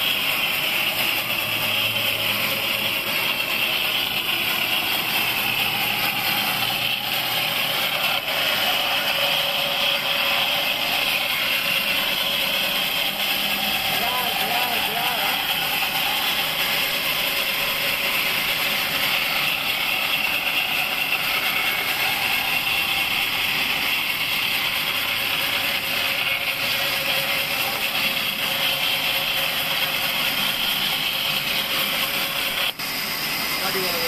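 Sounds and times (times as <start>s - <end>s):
band saw cutting wood: 0.0s - 34.0s.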